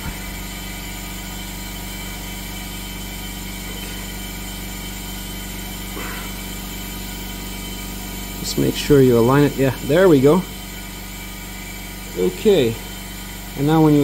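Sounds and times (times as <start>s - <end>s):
compressed air hum and hiss: 0.0s - 14.0s.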